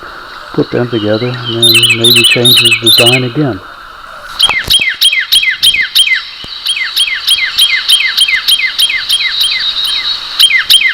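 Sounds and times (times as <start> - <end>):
songbird singing: 0.0 - 10.9.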